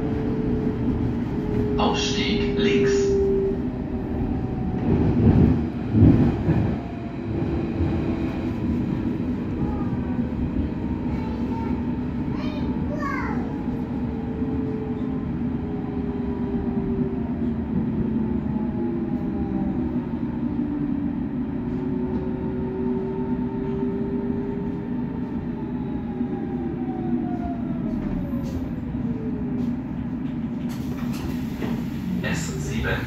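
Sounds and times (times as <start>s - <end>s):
electric train hum: 0.0s - 33.0s.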